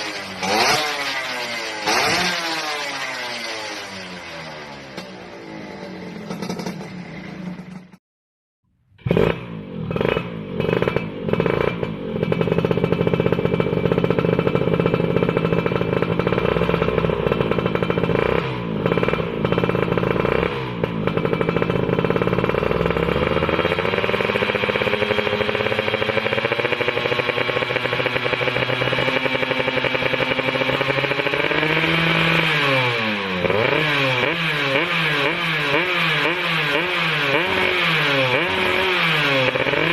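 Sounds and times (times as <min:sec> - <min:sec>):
two-stroke engine revving: 0:00.0 - 0:08.0, 0:08.9 - 0:39.9.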